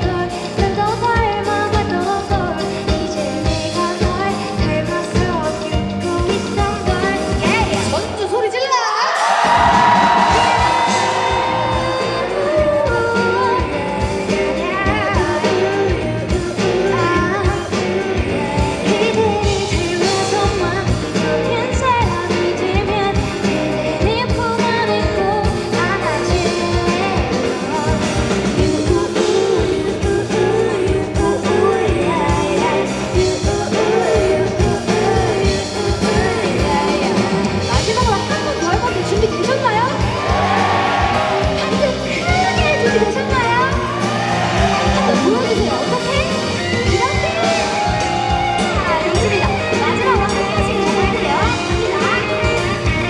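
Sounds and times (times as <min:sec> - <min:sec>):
band with steady beat: 0:00.0 - 0:08.4, 0:09.2 - 0:53.0
woman singing into microphone: 0:00.0 - 0:40.5, 0:41.4 - 0:53.0.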